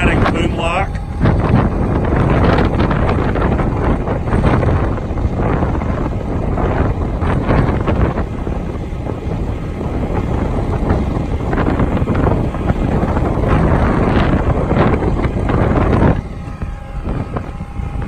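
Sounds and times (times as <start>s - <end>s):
diesel engine running: 0.0s - 18.0s
faint steady whine: 0.0s - 18.0s
wind buffeting microphone: 0.0s - 18.0s.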